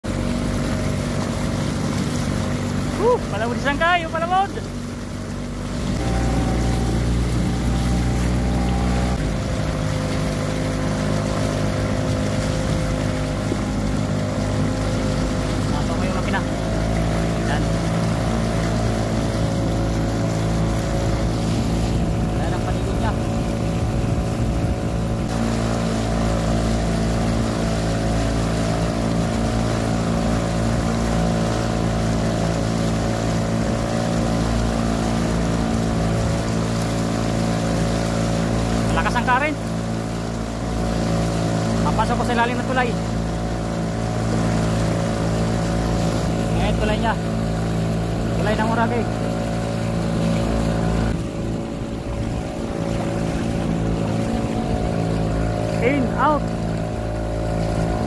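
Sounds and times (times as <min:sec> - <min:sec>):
outboard motor running: 0:00.0 - 0:58.0
water rushing past hull: 0:00.0 - 0:58.0.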